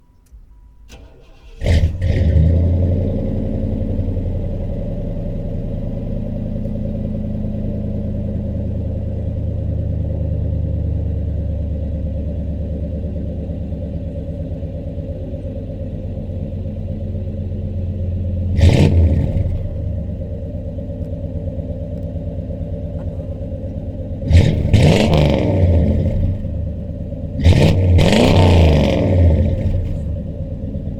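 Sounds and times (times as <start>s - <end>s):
car engine cold start idling: 0.2s - 28.4s, 29.0s - 30.9s
engine revving: 0.9s - 13.2s, 14.1s - 21.2s, 21.9s - 30.9s.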